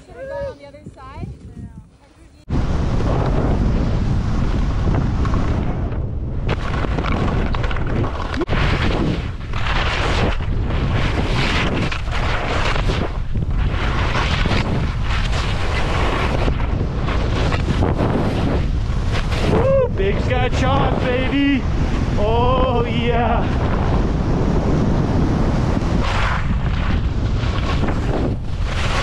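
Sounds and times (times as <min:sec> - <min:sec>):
heavy wind noise on microphone: 0:00.0 - 0:29.0
skis scraping through snow: 0:00.6 - 0:05.6, 0:06.6 - 0:22.2, 0:23.6 - 0:29.0.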